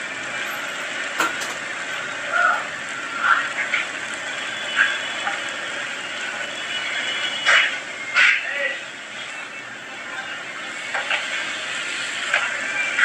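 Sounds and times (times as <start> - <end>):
mixture sizzling in a hot pan: 0.0 - 13.0.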